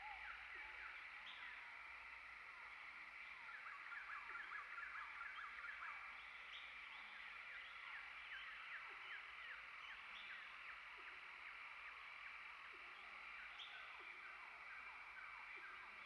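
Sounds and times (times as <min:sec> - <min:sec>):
steady high hum: 0:00.0 - 0:16.0.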